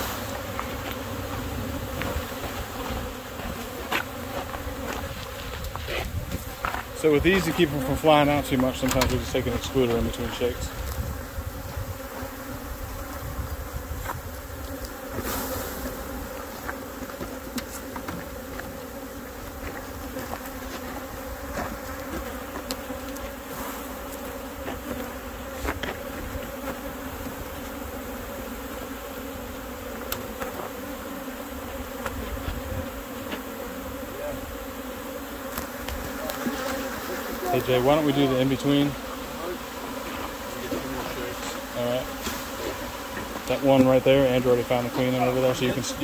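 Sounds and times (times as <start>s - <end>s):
bees buzzing: 0.0s - 46.0s.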